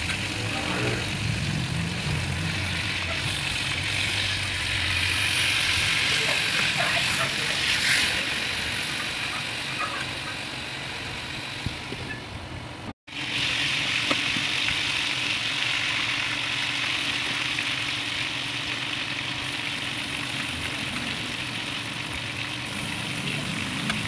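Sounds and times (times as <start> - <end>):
oil sizzling in a wok: 0.0 - 12.3, 13.1 - 24.0.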